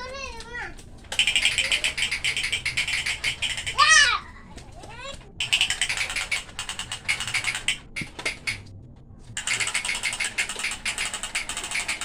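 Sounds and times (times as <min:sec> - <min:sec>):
toy gun rapid clicking: 0:00.1 - 0:08.7, 0:09.4 - 0:12.0.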